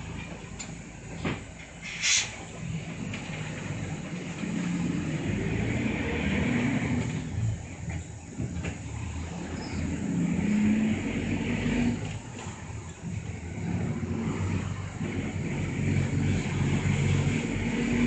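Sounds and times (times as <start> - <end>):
bus engine hum: 0.0 - 18.0
tyre and road noise: 0.0 - 18.0.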